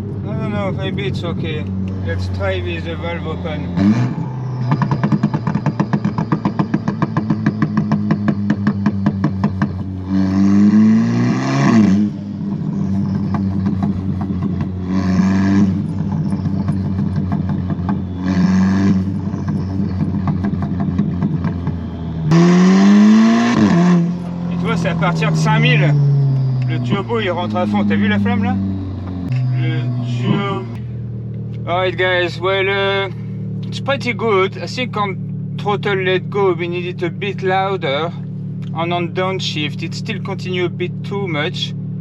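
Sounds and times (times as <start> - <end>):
car engine revving: 0.0 - 42.0
exhaust pops and crackles: 3.8 - 22.6, 23.5 - 29.4, 30.2 - 41.7.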